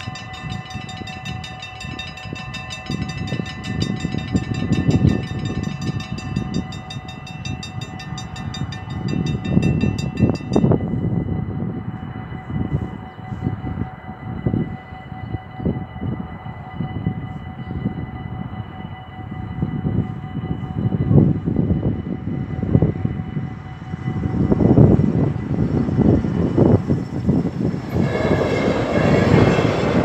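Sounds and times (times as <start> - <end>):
level-crossing warning bells: 0.0 - 30.0.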